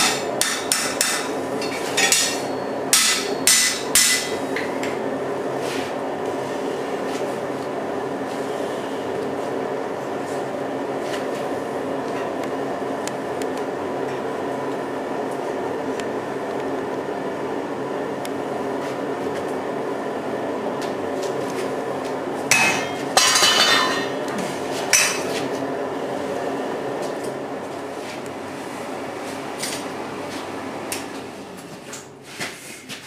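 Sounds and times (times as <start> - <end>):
steady mechanical drone: 0.0 - 33.0.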